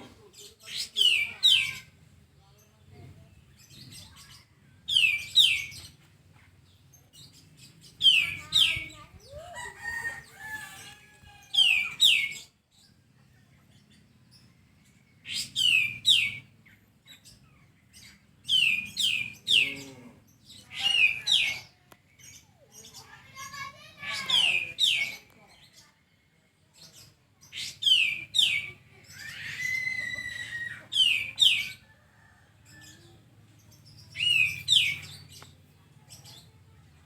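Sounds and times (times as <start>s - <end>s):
bird twittering chatter: 0.0s - 2.0s, 3.4s - 26.0s, 26.8s - 36.8s.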